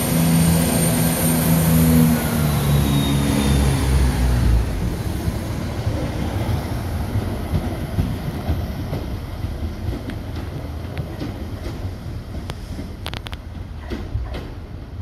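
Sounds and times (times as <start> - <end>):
train engine drone: 0.0 - 15.0
wheels rumbling on track: 0.0 - 15.0.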